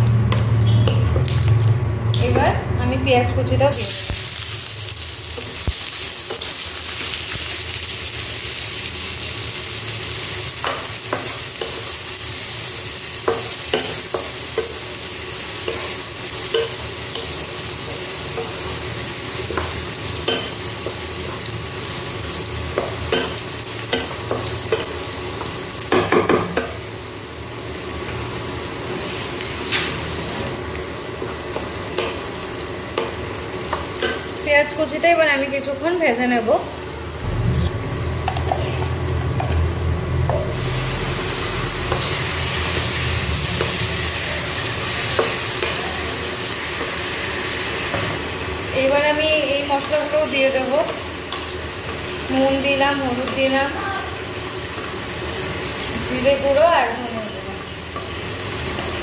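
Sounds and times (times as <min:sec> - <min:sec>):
onion sizzling in oil: 0:00.0 - 0:59.0.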